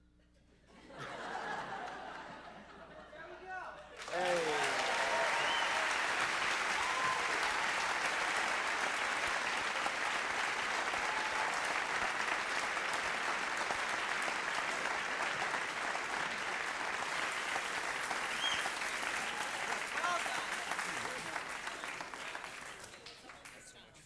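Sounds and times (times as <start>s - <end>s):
audience applauding: 1.0s - 2.5s, 3.4s - 24.0s.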